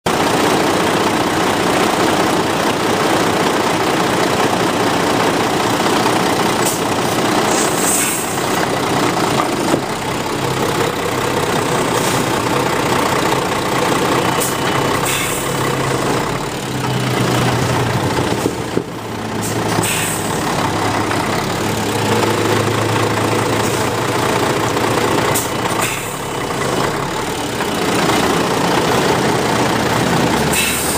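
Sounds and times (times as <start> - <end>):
truck diesel engine running: 0.1 - 30.9.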